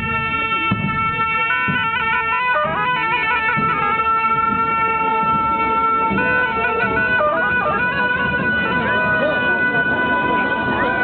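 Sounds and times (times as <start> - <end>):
reedy wind instrument melody: 0.0 - 11.0.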